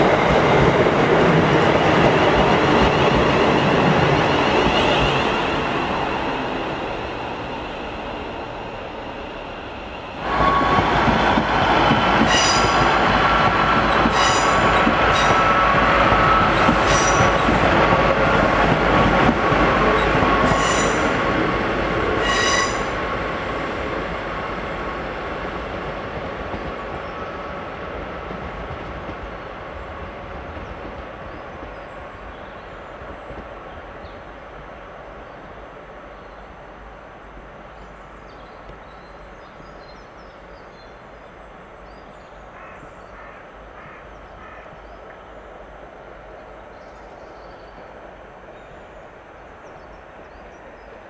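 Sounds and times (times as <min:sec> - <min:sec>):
train passing: 0:00.0 - 0:51.0.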